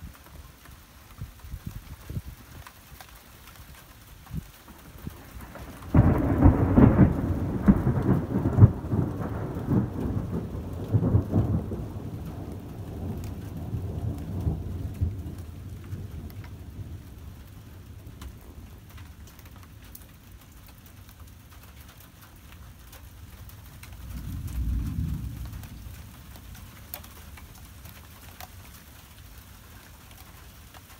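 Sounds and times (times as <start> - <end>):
rain falling: 0.0 - 30.9
thunder crackling and rumbling: 4.1 - 30.9.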